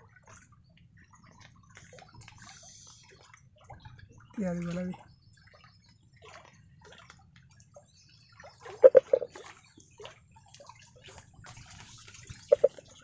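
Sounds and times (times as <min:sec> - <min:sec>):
water sloshing and dripping: 0:00.0 - 0:13.0.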